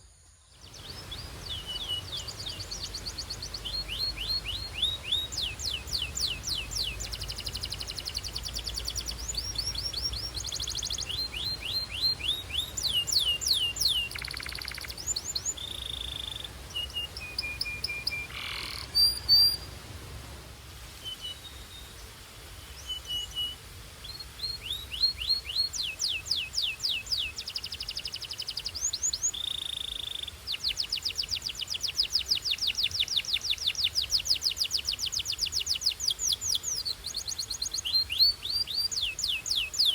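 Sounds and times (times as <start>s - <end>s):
canary singing trills: 0.6s - 19.7s, 22.8s - 39.9s.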